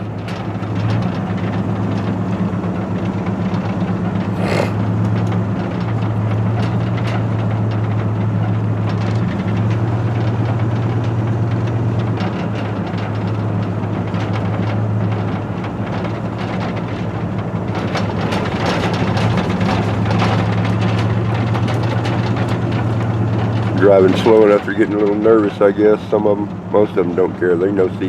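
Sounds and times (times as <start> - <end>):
light rattles: 0.0 - 28.0
vehicle engine and road drone: 0.0 - 28.0.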